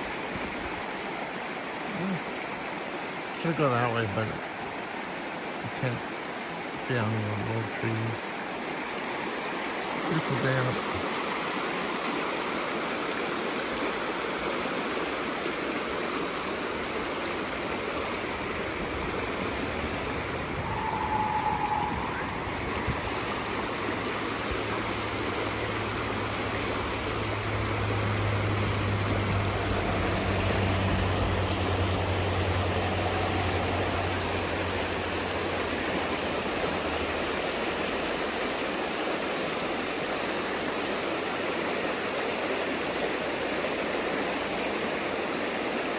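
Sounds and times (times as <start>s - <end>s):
creek rushing over its bed: 0.0s - 45.9s.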